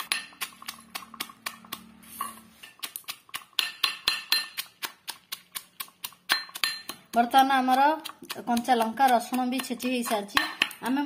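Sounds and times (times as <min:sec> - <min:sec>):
metal pestle clinking in mortar: 0:00.0 - 0:05.2, 0:05.8 - 0:10.9.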